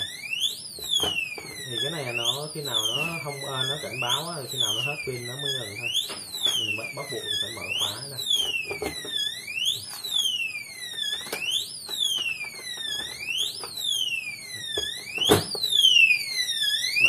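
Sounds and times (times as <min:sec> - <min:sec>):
electronic safe alarm siren: 0:00.0 - 0:17.0.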